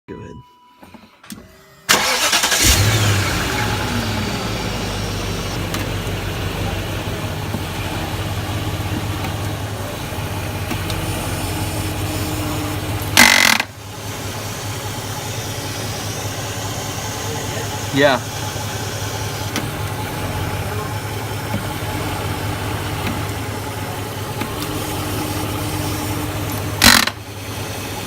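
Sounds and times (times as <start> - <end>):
loud grinding burst: 1.9 - 9.5, 10.1 - 23.5, 24.6 - 27.3
vehicle engine idling: 1.9 - 28.0.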